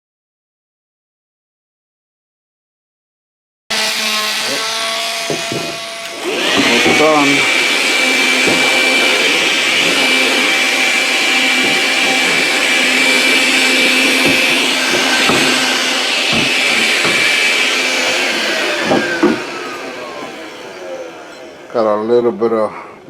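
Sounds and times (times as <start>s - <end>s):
electric motor whining: 3.7s - 23.0s.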